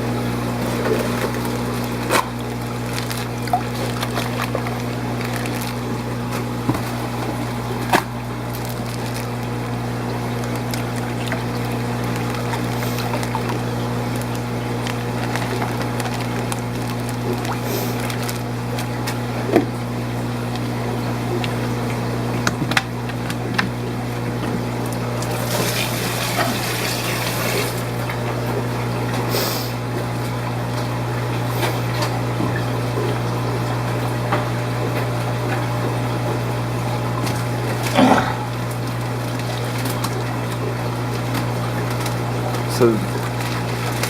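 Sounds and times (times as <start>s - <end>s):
aquarium pumps humming: 0.0s - 44.0s
running water: 0.0s - 44.0s.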